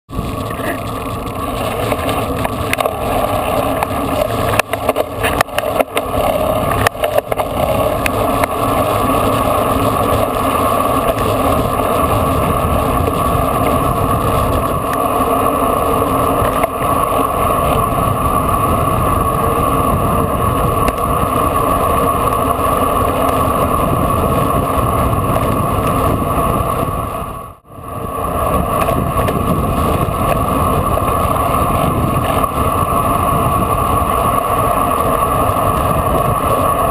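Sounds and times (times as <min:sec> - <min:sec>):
wind rushing over microphone: 0:00.1 - 0:36.9.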